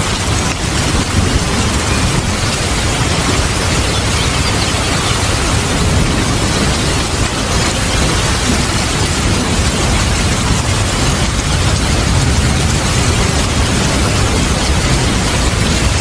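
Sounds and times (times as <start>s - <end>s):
heavy rain: 0.0s - 16.0s
low rumble of thunder: 0.0s - 16.0s.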